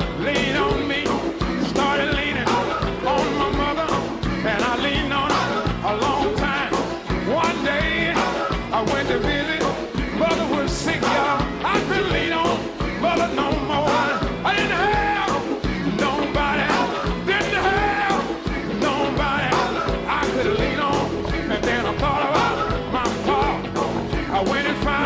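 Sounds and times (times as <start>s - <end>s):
people singing: 0.0s - 25.0s
steady drum beat: 0.0s - 25.0s.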